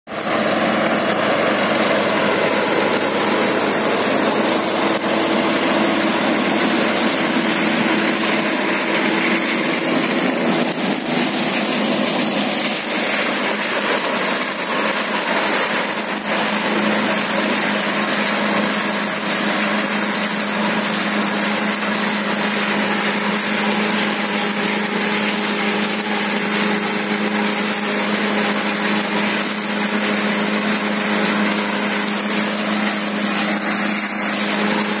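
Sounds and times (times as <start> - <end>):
tractor diesel engine under load: 0.0 - 35.0
rotor chopping straw: 0.1 - 35.0.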